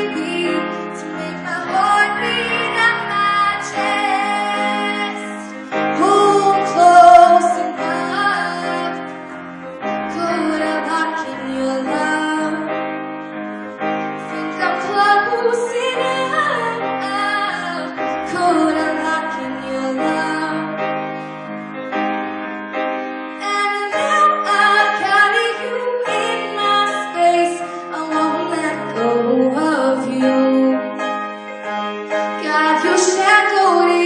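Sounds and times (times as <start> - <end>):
woman singing: 0.0 - 9.0, 10.1 - 12.8, 14.3 - 20.7, 23.4 - 31.0, 32.4 - 34.0
piano accompaniment: 0.0 - 34.0.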